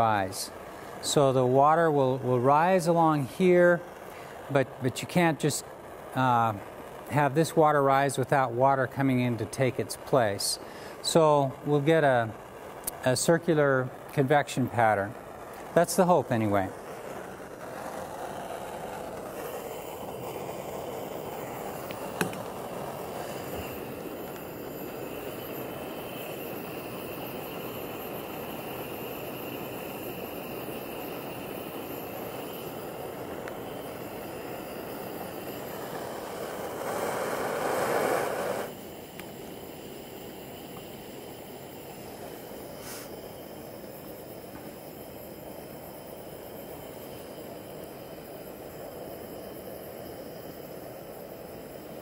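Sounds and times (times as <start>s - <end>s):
gas stove burner flame rushing: 0.0s - 52.0s.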